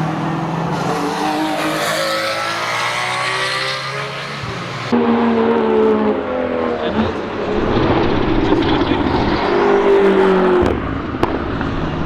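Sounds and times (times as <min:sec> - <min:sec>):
racing engine passing: 0:00.2 - 0:12.0.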